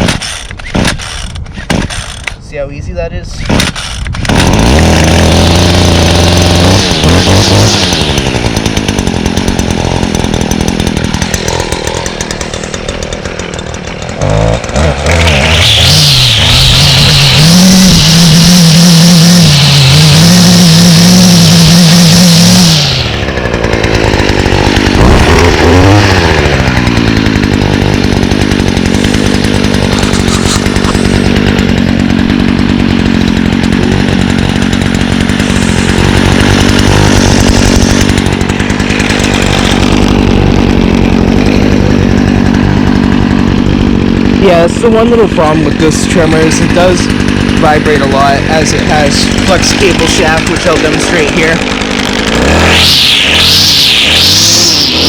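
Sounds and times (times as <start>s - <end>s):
string trimmer engine running: 0.0s - 55.0s.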